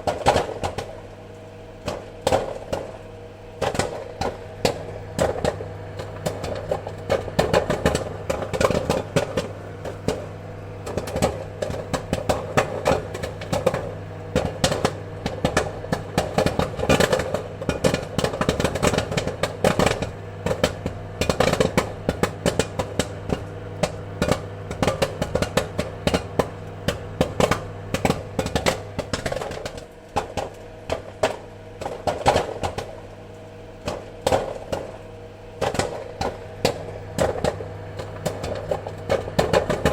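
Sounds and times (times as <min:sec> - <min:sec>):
popcorn popping: 0:00.0 - 0:39.9
steady low hum: 0:00.0 - 0:39.9.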